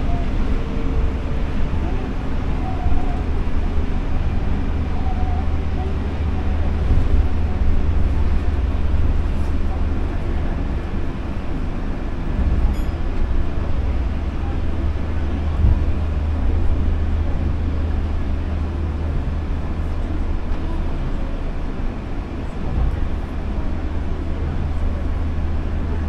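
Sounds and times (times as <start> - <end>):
monorail train rumbling: 0.0 - 26.0.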